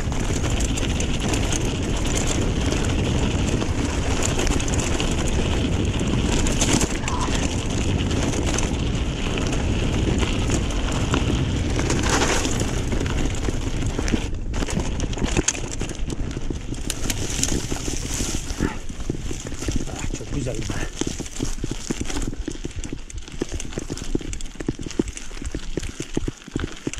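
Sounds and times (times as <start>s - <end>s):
wind buffeting the microphone: 0.0s - 25.6s
mountain bike rattling: 0.0s - 26.9s.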